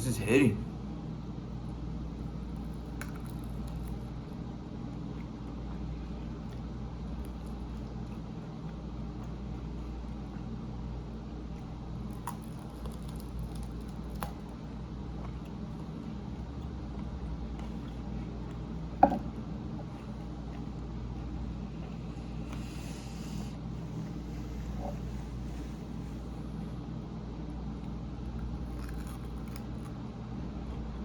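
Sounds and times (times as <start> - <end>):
steady low hum: 0.0 - 31.0
person chewing food: 1.5 - 26.7, 27.8 - 30.0.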